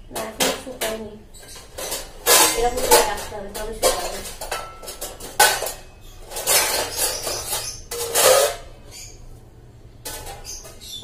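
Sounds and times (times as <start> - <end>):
dishes and utensils clattering: 0.0 - 9.3, 9.9 - 11.0.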